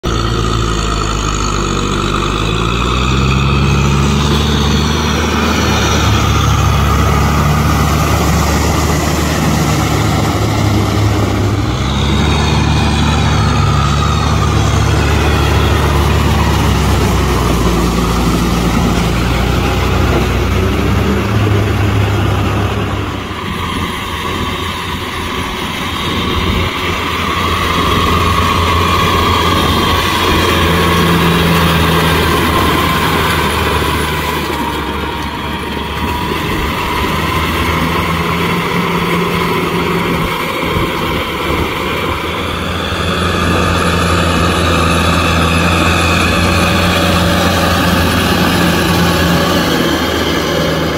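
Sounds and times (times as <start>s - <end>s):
tractor diesel engine under load: 0.0s - 50.9s
tyres and blades churning mud: 0.0s - 50.9s.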